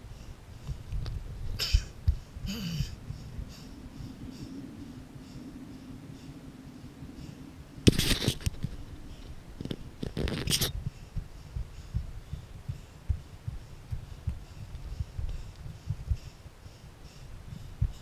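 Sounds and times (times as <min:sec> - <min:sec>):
bursts of microphone noise: 0:00.0 - 0:18.0.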